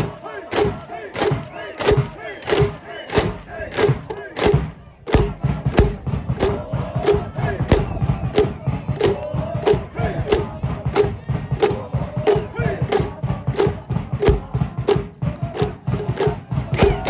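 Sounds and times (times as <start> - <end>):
crowd chanting and shouting: 0.0 - 17.0
music: 0.0 - 17.0
steady drum beat: 0.0 - 17.0.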